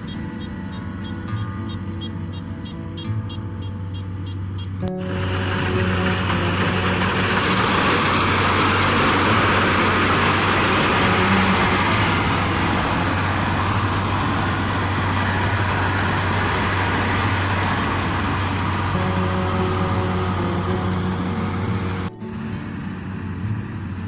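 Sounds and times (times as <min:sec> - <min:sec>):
combine harvester engine running: 0:00.0 - 0:24.0.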